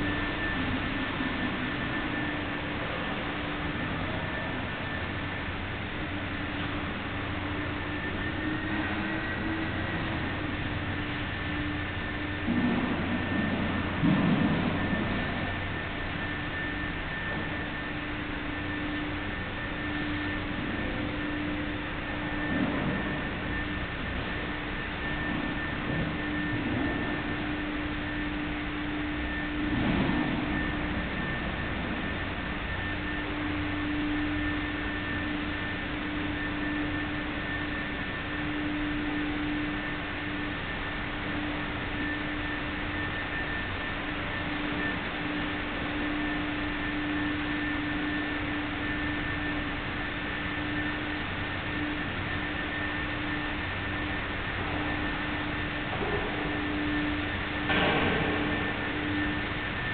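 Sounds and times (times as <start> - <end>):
faint steady tone: 0.0 - 59.9
low hum: 0.0 - 59.9
thin high whine: 0.0 - 59.9.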